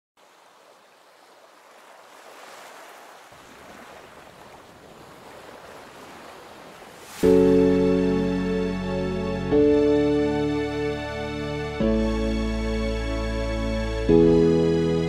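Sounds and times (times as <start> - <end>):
waves washing: 0.2 - 15.0.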